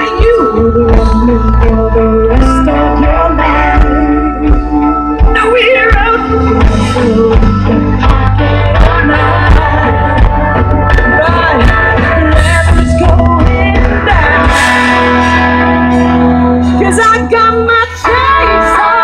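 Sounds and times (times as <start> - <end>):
bass and drums: 0.0 - 19.0
keyboard chords: 0.0 - 19.0
person singing: 0.0 - 19.0.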